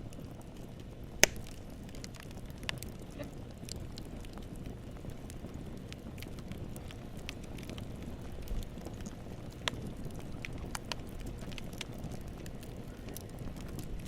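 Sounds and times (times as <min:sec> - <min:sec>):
burning wood crackling and popping: 0:00.0 - 0:14.0
low rush of flame: 0:00.0 - 0:14.0.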